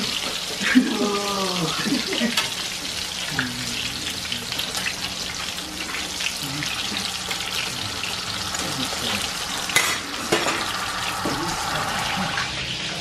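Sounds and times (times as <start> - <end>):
cutlets sizzling in oil: 0.0 - 13.0.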